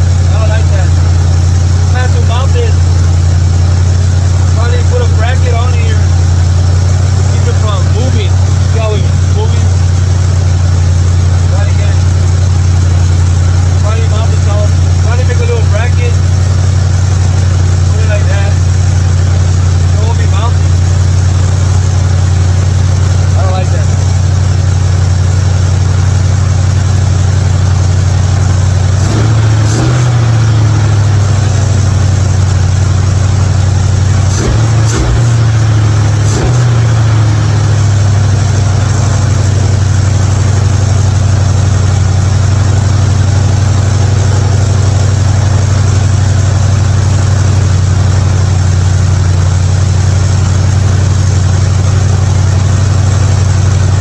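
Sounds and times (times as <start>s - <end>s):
hot rod engine idling and revving: 0.0s - 54.0s.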